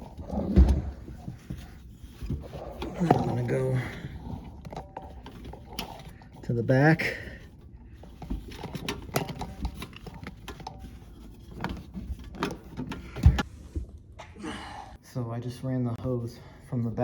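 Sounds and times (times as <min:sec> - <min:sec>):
hose knocking and scraping: 0:00.0 - 0:13.9.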